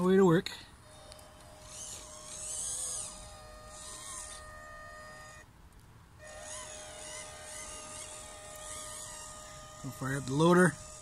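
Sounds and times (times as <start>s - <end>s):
toy truck electric motor whining: 0.8s - 5.5s, 6.2s - 11.0s.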